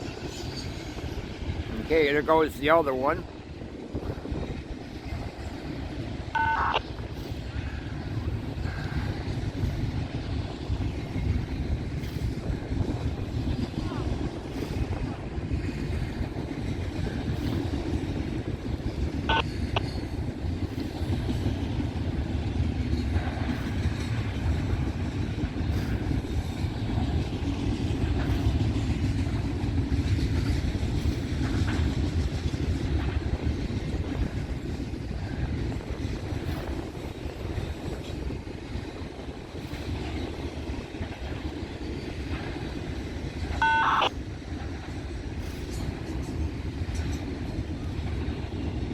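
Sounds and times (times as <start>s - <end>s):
high train squeal: 0.0s - 3.0s, 3.9s - 48.8s
freight train rumbling on rails: 0.0s - 48.9s.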